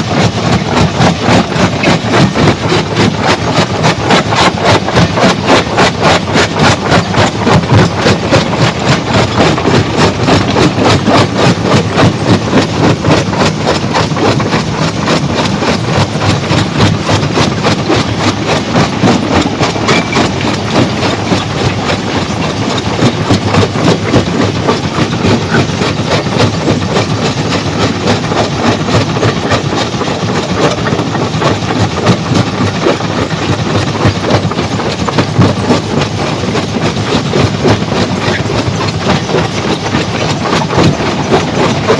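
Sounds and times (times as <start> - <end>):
stone crusher clattering: 0.0 - 41.9.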